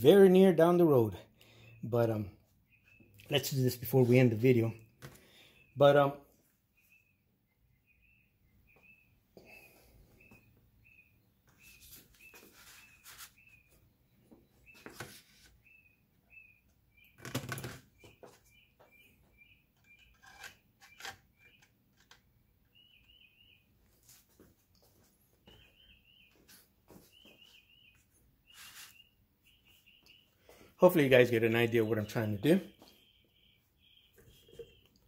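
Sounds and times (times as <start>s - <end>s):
small bird chirping: 2.6s - 3.6s, 6.7s - 24.2s, 24.8s - 35.0s.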